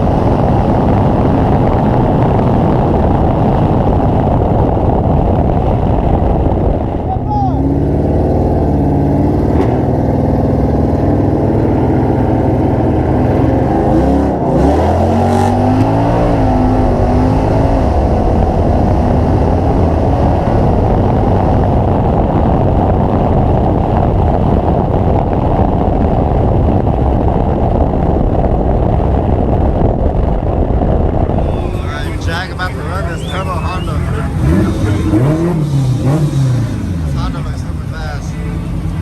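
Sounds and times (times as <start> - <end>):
car engines revving and accelerating: 0.0 - 27.5, 30.3 - 39.0.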